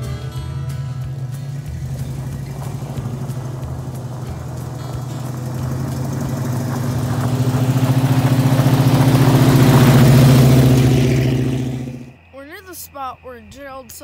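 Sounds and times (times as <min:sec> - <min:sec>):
pickup truck engine running: 0:00.0 - 0:12.1
tyres on gravel: 0:00.0 - 0:14.0.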